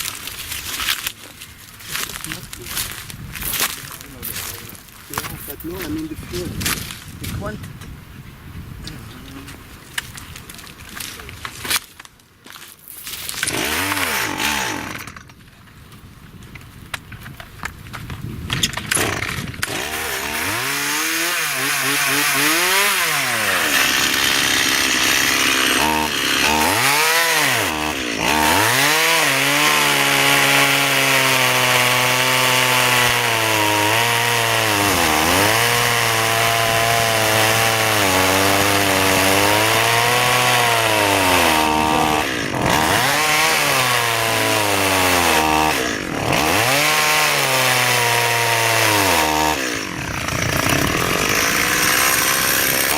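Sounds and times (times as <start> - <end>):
chainsaw cutting wood: 0.0 - 7.3, 13.0 - 15.4, 17.6 - 52.9.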